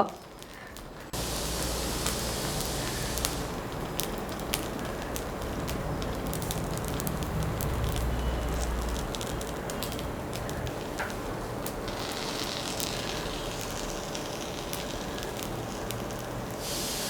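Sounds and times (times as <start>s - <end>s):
batter sizzling in oil: 0.2s - 17.0s.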